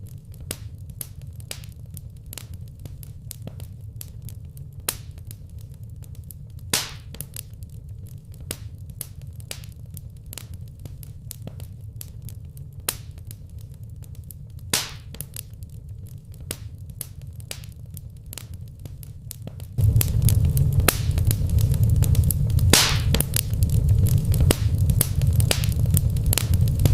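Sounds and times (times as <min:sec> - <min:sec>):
loud fire pops: 0:00.0 - 0:26.9
low steady rumble: 0:00.0 - 0:26.9
wood fire crackling: 0:00.0 - 0:26.9.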